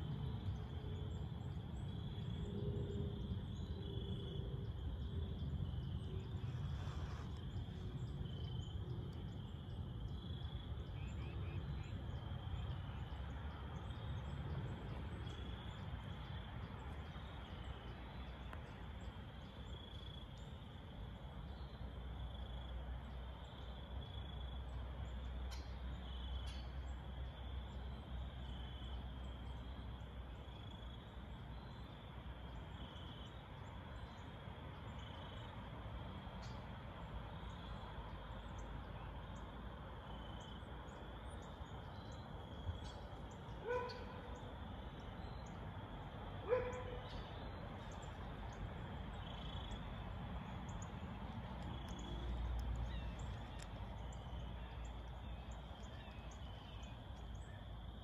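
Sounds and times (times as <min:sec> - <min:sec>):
crickets chirping: 0:00.0 - 0:58.0
low steady rumble: 0:00.0 - 0:58.0.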